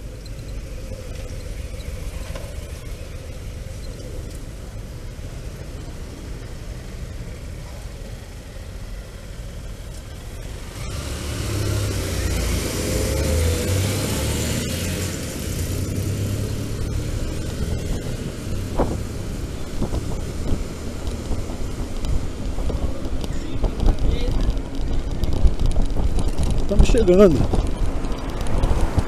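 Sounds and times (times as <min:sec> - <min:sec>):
road and wind noise: 0:00.0 - 0:29.0.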